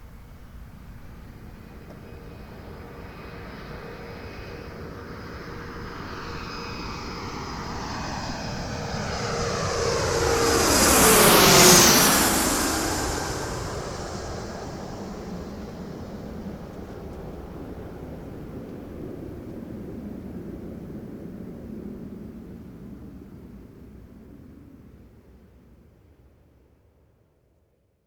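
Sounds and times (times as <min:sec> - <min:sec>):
airliner passing overhead: 0:00.0 - 0:25.4.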